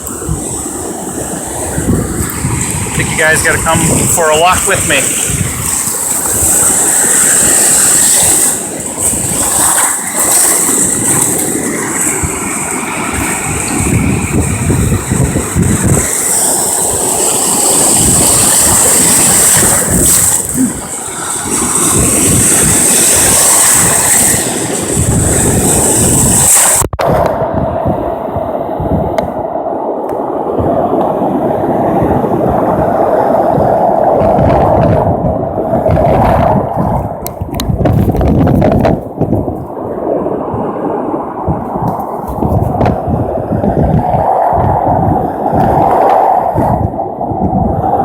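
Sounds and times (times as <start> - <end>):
surf washing: 0.0 - 48.0
wind buffeting microphone: 0.0 - 48.0.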